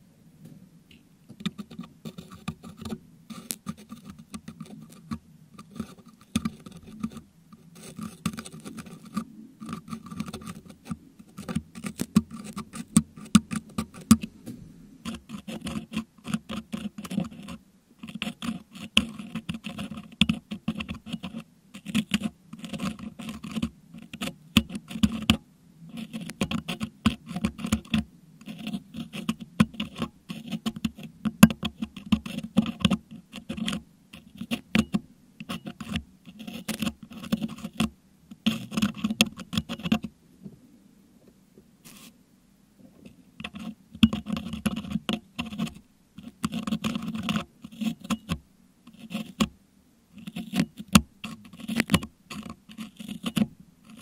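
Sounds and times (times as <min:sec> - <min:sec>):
metal hook scraping microphone grille: 0:01.4 - 0:40.1, 0:43.0 - 0:49.5, 0:50.2 - 0:54.0.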